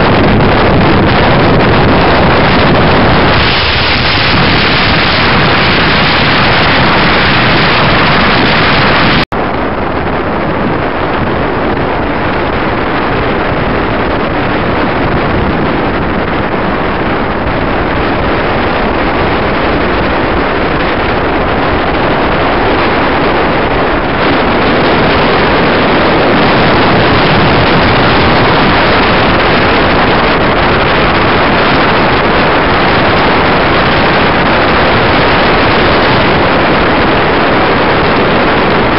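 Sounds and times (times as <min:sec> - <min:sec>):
wind roaring over microphone: 0:00.0 - 0:38.9.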